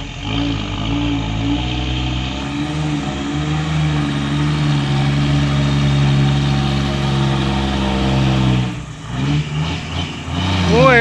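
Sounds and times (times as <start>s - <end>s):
truck diesel engine pulling uphill: 0.0s - 11.0s.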